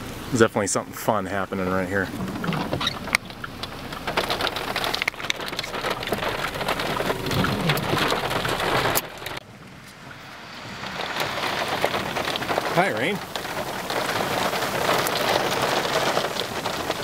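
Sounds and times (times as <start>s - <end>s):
heavy rain on car: 0.0s - 17.0s.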